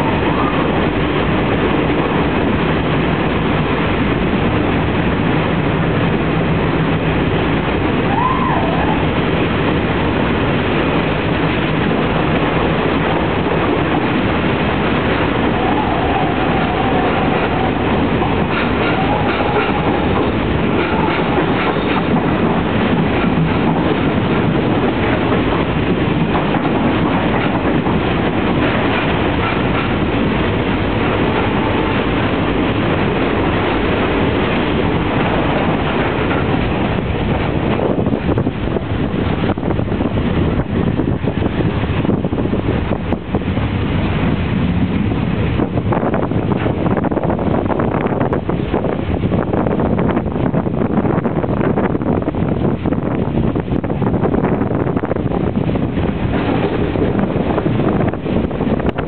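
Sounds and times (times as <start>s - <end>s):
wheels clacking over rails: 0.0s - 50.8s
train rumbling on track: 0.0s - 59.0s.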